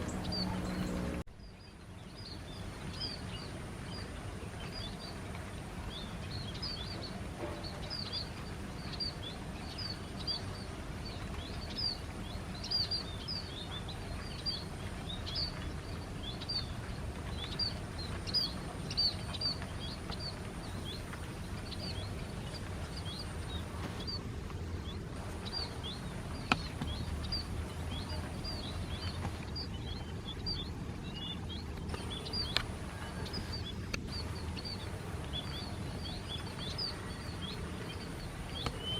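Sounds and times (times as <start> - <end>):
small birds chirping: 0.0 - 38.9
steady low rumble: 0.0 - 38.9.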